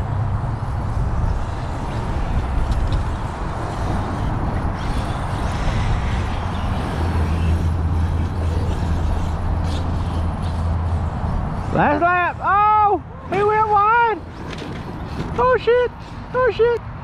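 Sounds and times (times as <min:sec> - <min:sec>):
radio-controlled cars racing: 0:00.0 - 0:16.8.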